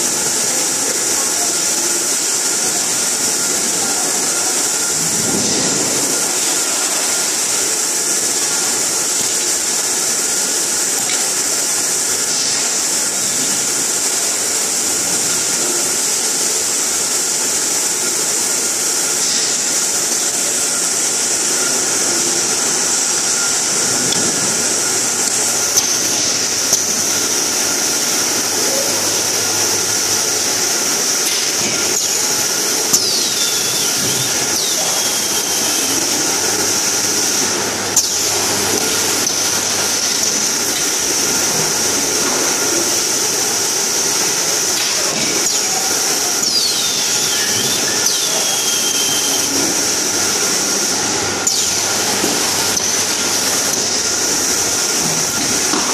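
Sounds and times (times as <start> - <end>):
machinery hiss and hum: 0.0 - 55.9.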